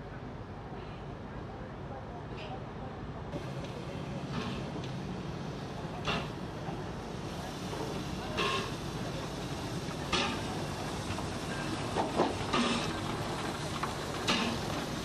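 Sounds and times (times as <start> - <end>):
steam locomotive low rumble: 0.0 - 15.0.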